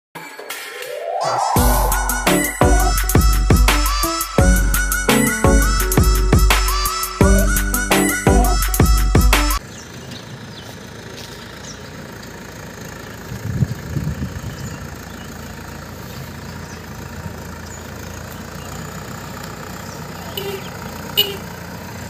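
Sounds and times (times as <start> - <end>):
tractor diesel engine running: 1.6 - 22.0.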